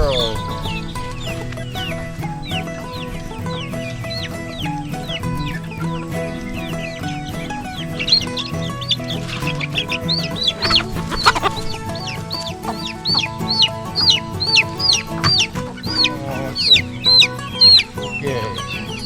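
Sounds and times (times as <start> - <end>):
background music: 0.0 - 19.0
chicks peeping: 0.0 - 19.0.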